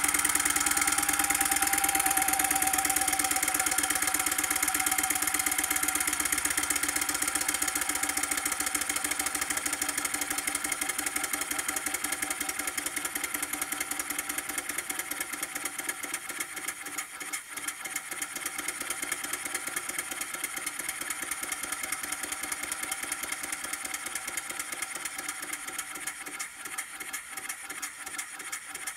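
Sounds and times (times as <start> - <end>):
steam engine running fast: 0.0 - 28.9.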